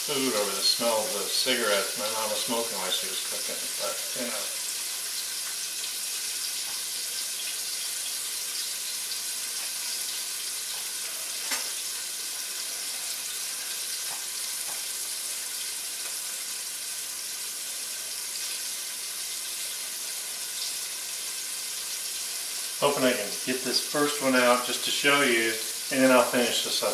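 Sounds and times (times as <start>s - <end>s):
chicken sizzling in a pan: 0.0s - 26.9s.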